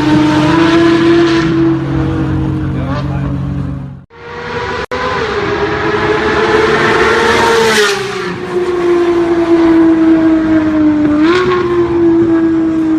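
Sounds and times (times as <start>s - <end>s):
car engine at high revs: 0.0s - 12.9s.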